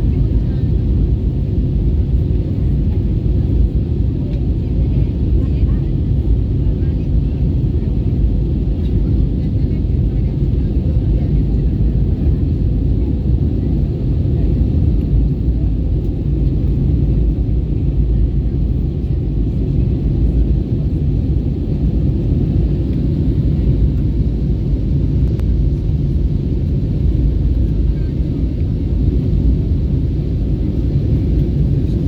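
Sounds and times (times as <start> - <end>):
airplane engine cabin rumble: 0.0 - 32.0.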